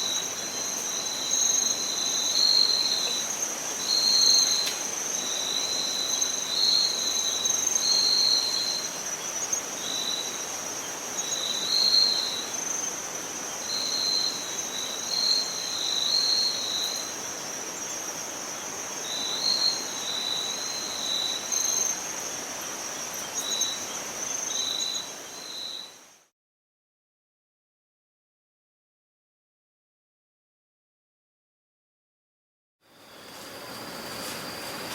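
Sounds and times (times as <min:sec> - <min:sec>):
crickets trilling: 0:00.0 - 0:26.2, 0:32.9 - 0:34.9
light hiss: 0:00.0 - 0:26.2, 0:32.9 - 0:34.9
lower insect chirping: 0:00.0 - 0:26.3, 0:32.9 - 0:34.9.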